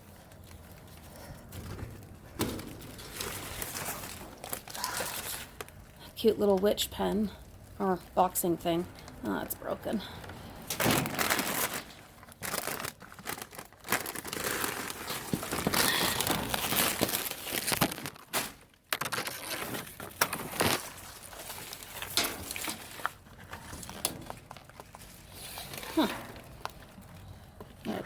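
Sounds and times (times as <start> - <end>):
plastic bags crinkling: 0.0 - 28.0.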